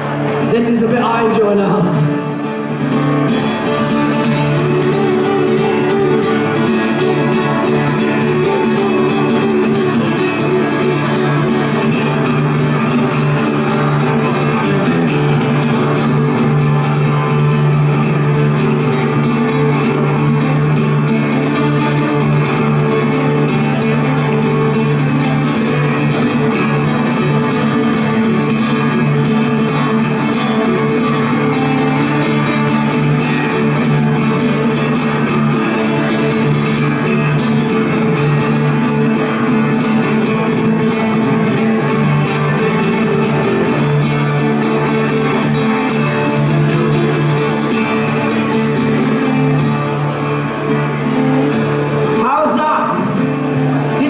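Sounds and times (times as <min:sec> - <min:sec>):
guitar long held notes: 0:00.0 - 0:54.0
live band playing: 0:00.0 - 0:54.0.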